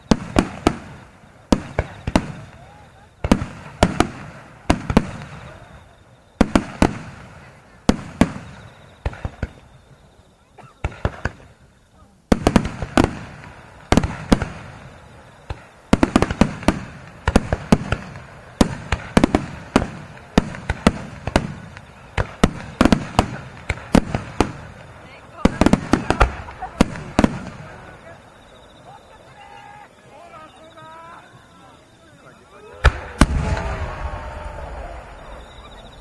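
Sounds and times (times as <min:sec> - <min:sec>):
fireworks booming and crackling: 0:00.0 - 0:36.0.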